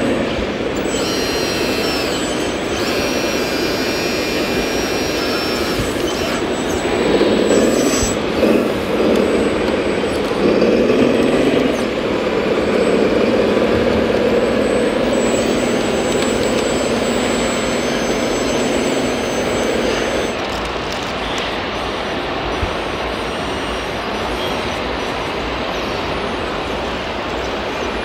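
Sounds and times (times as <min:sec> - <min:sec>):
truck engine drone: 0:00.0 - 0:28.0.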